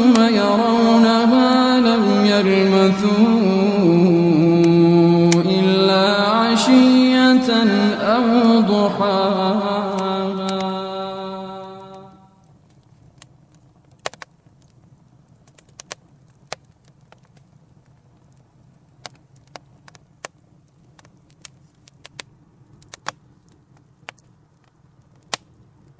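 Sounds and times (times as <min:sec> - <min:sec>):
faint low background noise: 0:00.0 - 0:25.9
wood fire crackling: 0:00.0 - 0:25.9.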